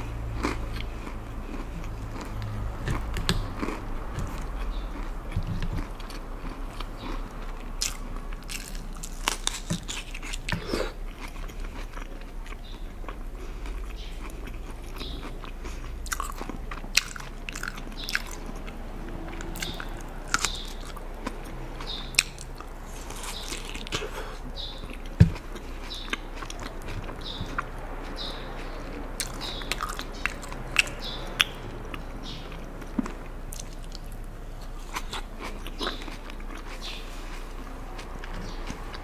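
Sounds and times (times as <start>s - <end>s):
chewing crisp salad: 0.0s - 39.0s.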